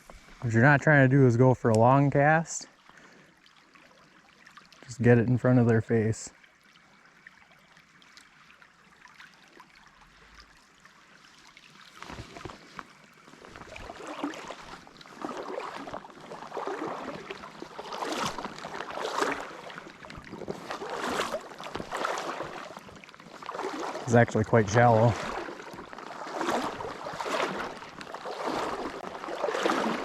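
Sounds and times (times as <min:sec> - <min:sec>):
wading through shallow stream: 0:00.0 - 0:30.0.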